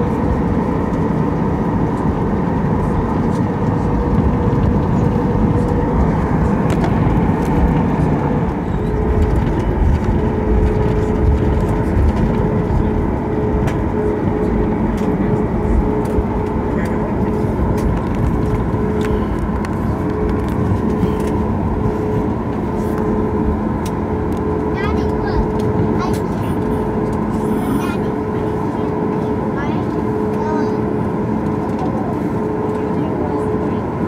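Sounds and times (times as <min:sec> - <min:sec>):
aircraft cabin rumble: 0:00.0 - 0:34.0.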